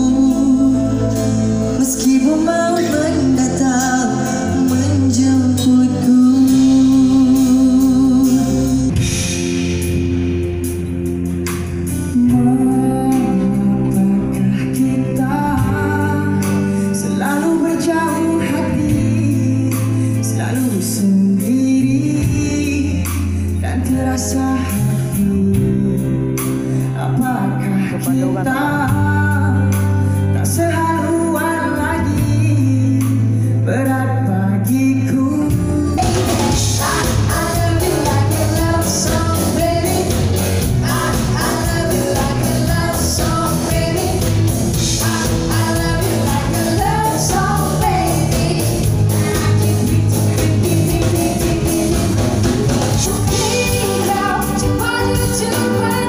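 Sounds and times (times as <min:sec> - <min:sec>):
man and woman singing duet: 0:00.0 - 0:09.9, 0:11.9 - 0:56.0
man singing: 0:00.0 - 0:10.1, 0:11.8 - 0:56.0
bass and keyboard notes: 0:00.0 - 0:56.0
full band with drums: 0:00.0 - 0:56.0.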